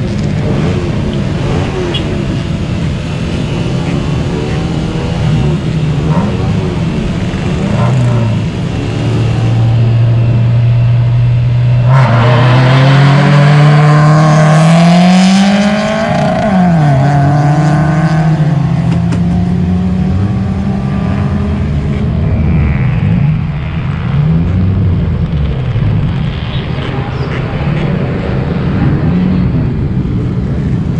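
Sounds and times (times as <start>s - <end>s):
car engine accelerating: 0.0s - 30.9s.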